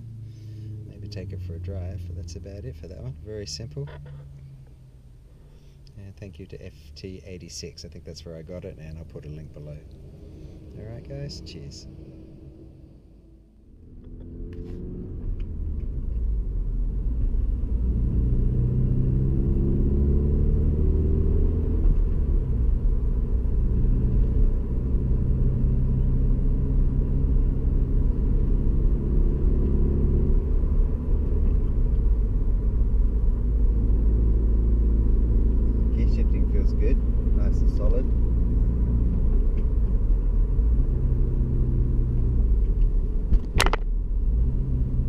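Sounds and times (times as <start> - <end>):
car engine accelerating: 0.0 - 45.0
road rumble: 0.0 - 45.0.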